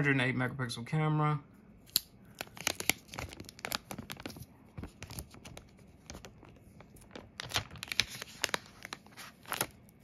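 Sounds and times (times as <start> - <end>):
plastic film crinkling: 1.9 - 10.0.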